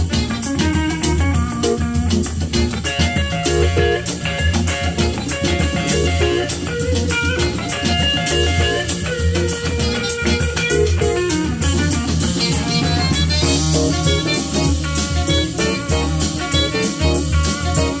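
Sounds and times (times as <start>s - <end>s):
jazz with guitar and drums: 0.0s - 18.0s.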